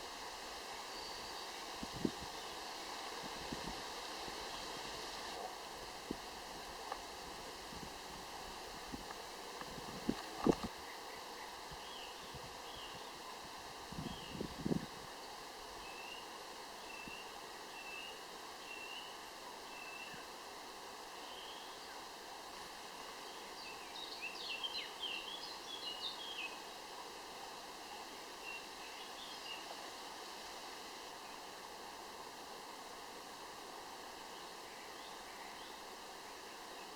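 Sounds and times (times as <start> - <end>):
steady soft hiss: 0.0 - 36.9.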